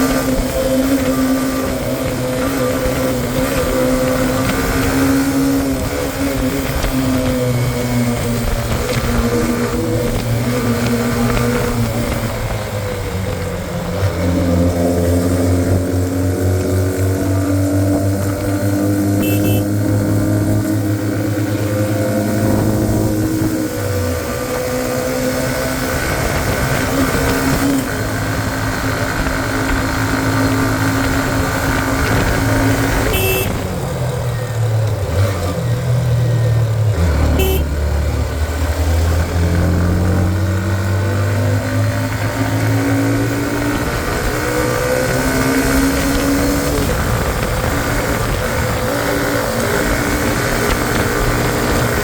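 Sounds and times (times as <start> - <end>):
motorcycle engine under load: 0.0 - 52.0.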